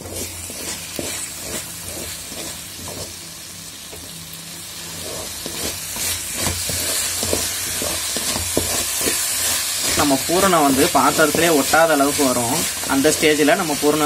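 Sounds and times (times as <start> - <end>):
wooden spatula scraping a pan: 0.0 - 3.2, 4.6 - 14.0
mixture sizzling in a pan: 0.0 - 14.0.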